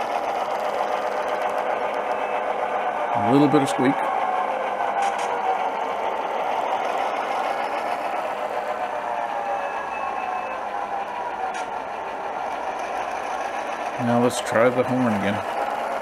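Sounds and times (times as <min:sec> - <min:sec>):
simulated locomotive engine rumble: 0:00.0 - 0:16.0.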